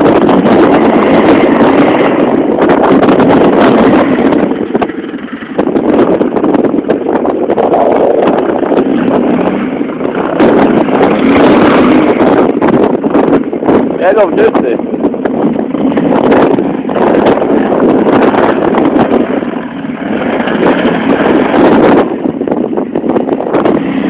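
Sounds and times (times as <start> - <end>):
quad bike engine revving hard: 0.0 - 14.5, 15.4 - 24.0
wind on microphone: 0.0 - 24.0.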